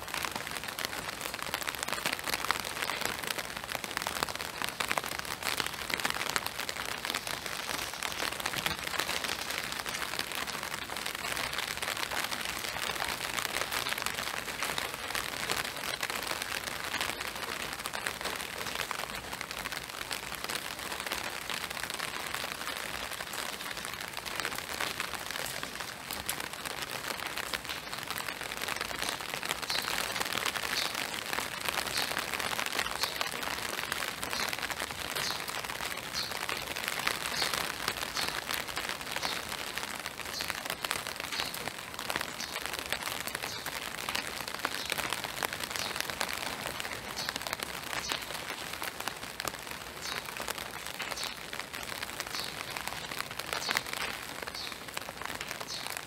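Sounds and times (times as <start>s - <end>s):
rain pattering on trees and boardwalk: 0.0s - 56.0s.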